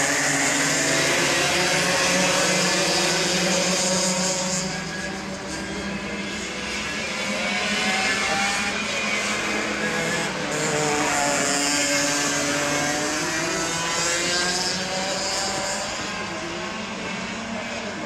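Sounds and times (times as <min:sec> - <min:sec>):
kart engines at high revs: 0:00.0 - 0:18.0.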